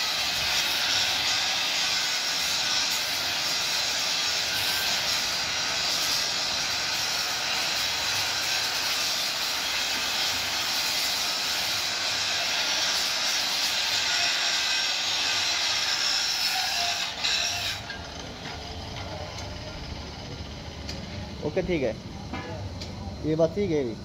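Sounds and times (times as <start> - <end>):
angle grinder grinding steel: 0.0 - 21.8.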